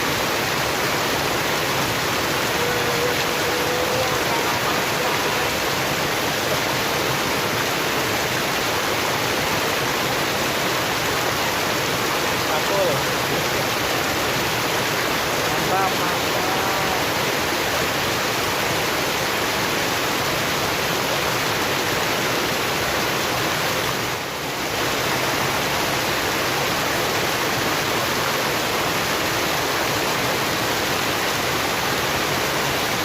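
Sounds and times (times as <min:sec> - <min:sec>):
river water pouring over weir: 0:00.0 - 0:33.0.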